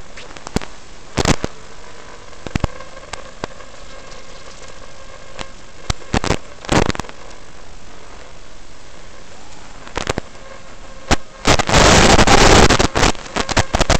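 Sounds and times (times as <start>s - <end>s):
radio static hiss: 0.0s - 13.9s
static crackles and pops: 0.0s - 13.9s.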